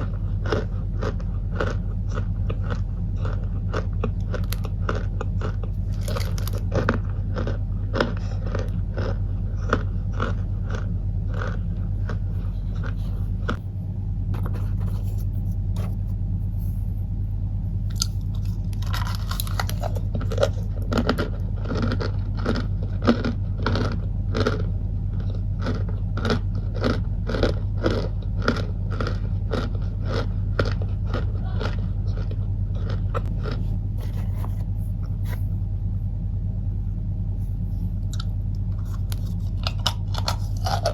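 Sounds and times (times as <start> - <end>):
cornstarch crunching: 0.0 - 13.7, 14.4 - 16.9, 17.8 - 35.6, 37.4 - 40.9
steady low hum: 0.0 - 40.9.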